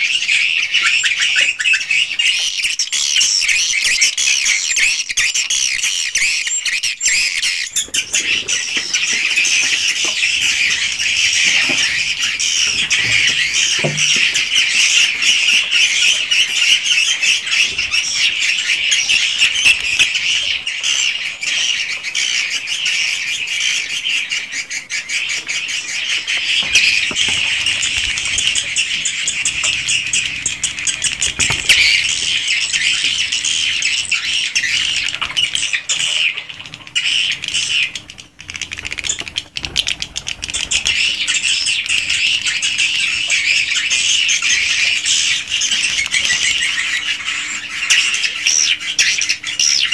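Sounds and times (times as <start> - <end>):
birds twittering: 0.0 - 49.9
faint steady hum: 5.4 - 49.9.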